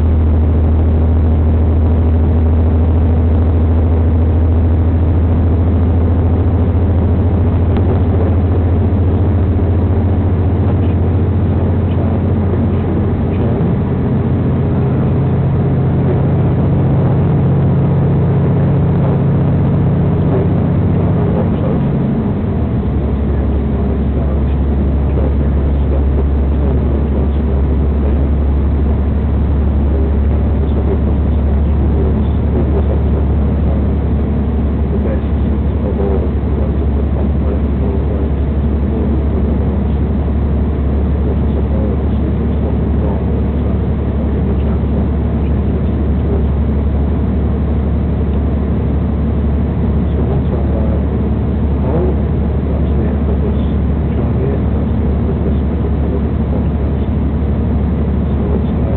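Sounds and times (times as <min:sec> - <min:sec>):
diesel train engine drone: 0:00.0 - 0:58.9.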